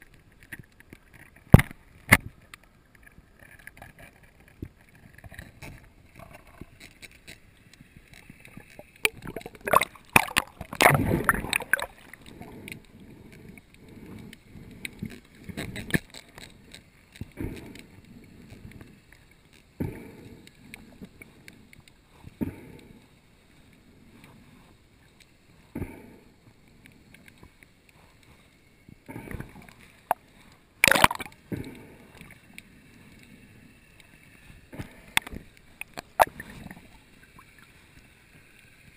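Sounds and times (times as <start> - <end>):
underwater gurgling: 0.0 - 23.1, 25.5 - 38.9.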